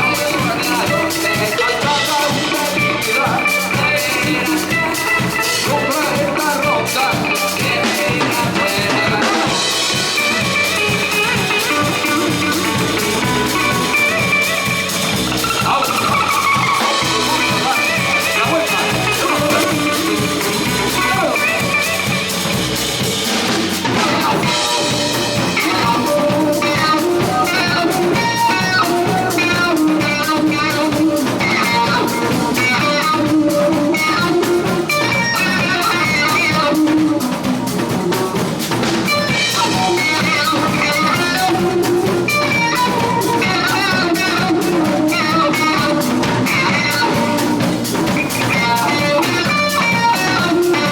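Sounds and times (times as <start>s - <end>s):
drum kit strokes: 0.0s - 50.9s
live band playing cumbia: 0.0s - 50.9s.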